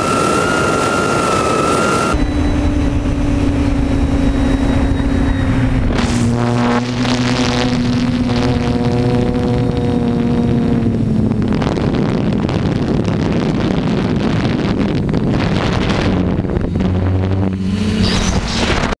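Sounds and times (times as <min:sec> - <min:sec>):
drone propellers humming: 0:00.0 - 0:19.0
wind noise on microphone: 0:00.0 - 0:19.0.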